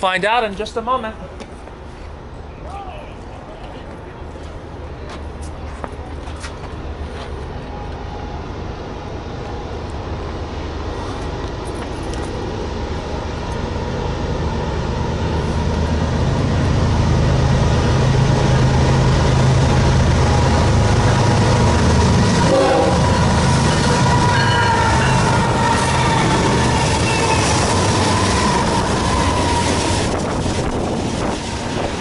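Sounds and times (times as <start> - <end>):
train rail noise: 0.0 - 32.0
locomotive engine drone: 1.2 - 32.0.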